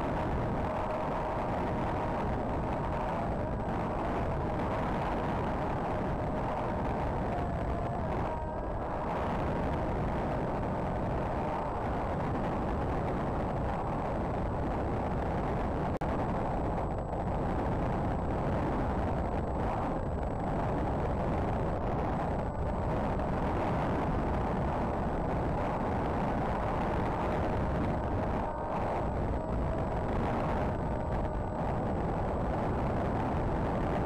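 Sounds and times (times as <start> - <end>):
faint electric motor hum: 0.0 - 34.0
wind rushing: 0.0 - 34.0.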